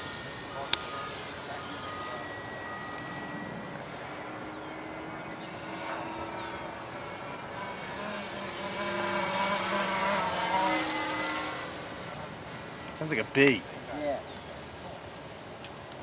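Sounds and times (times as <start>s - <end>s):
model plane motor buzzing: 0.0s - 14.8s.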